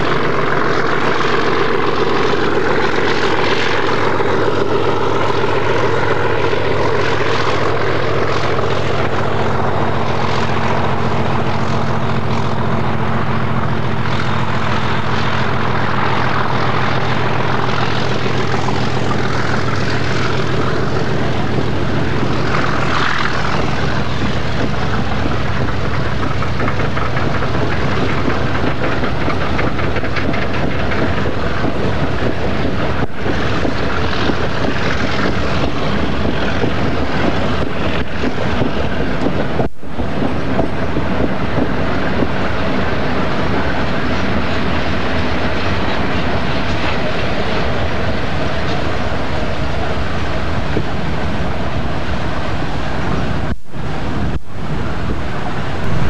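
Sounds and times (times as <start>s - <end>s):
wheels clicking over rail joints: 0.0s - 54.4s
low locomotive engine hum: 0.0s - 56.0s.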